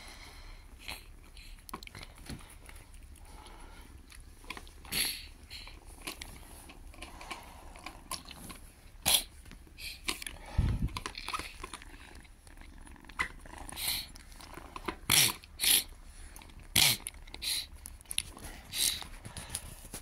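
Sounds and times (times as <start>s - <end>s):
kittens chewing food: 0.1s - 20.0s.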